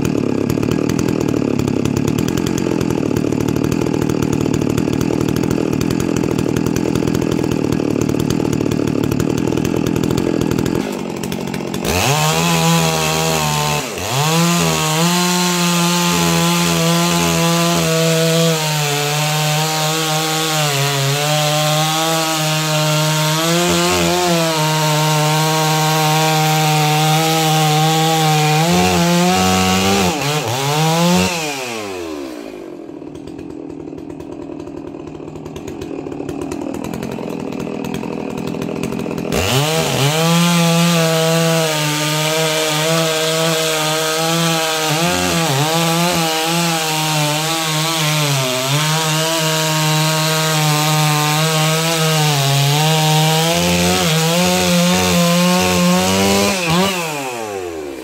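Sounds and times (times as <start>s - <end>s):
chainsaw cutting wood: 0.0s - 58.0s
chainsaw idling: 0.0s - 58.0s.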